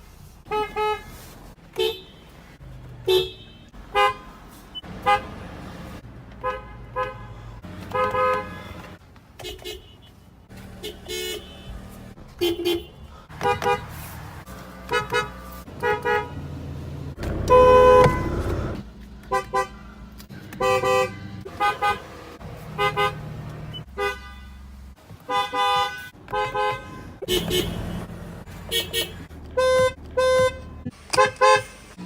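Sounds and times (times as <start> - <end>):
car horns tooting: 0.4 - 2.3, 3.0 - 5.6, 6.4 - 19.8, 20.4 - 31.9.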